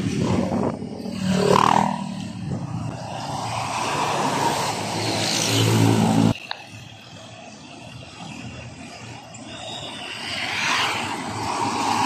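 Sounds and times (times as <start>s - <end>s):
truck engine drone: 0.0s - 12.0s
tyre noise on road: 0.0s - 12.0s.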